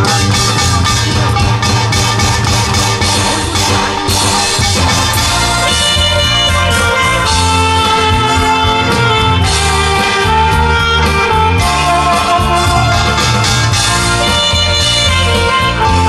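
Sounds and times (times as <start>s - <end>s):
backing track with bass and drums: 0.0s - 16.0s
saxophone melody: 0.0s - 16.0s.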